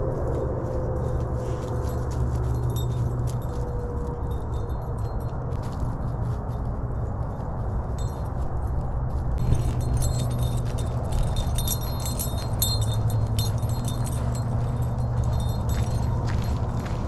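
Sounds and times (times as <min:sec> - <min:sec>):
steady low hum: 0:00.0 - 0:17.0
light metallic jingling: 0:01.1 - 0:17.0.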